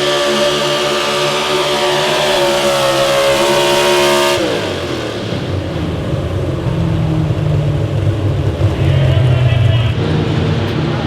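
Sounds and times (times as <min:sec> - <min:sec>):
truck engine revving then dropping: 0:00.0 - 0:11.0.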